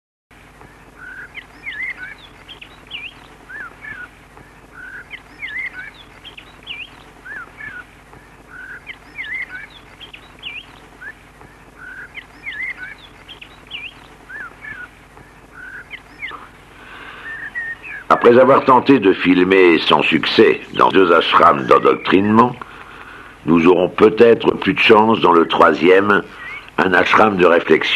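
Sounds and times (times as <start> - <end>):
faint steady hiss: 0.3 - 27.9
bird chirping: 0.4 - 27.9.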